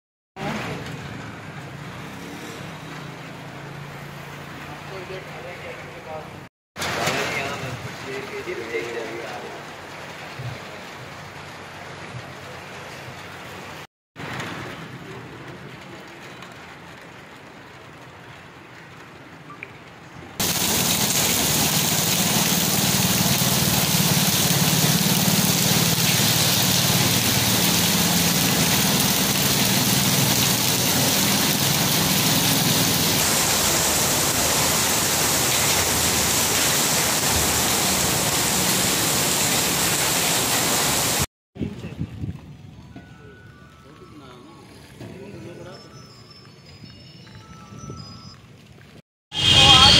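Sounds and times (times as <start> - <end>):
heavy rain on street: 0.4 - 6.0, 6.8 - 41.3, 45.6 - 49.9.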